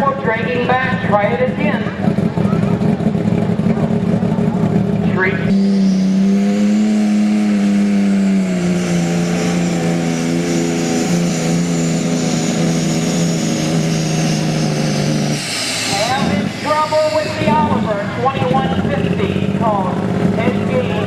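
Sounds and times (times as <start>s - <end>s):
high whine: 0.0s - 21.0s
tractor engine at full throttle: 0.0s - 21.0s.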